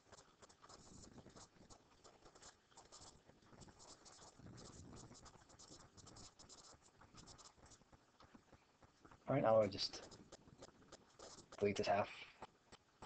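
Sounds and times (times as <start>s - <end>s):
soft low rustle: 0.0s - 13.0s.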